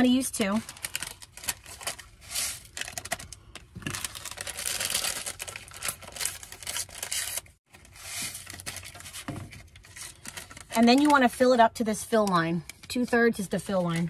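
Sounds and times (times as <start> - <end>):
paper packets tearing and crinkling: 0.0 - 11.4.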